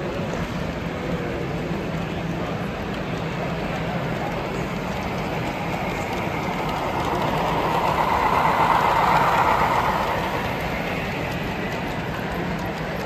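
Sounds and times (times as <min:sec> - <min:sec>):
model train rolling on track: 0:00.0 - 0:13.0.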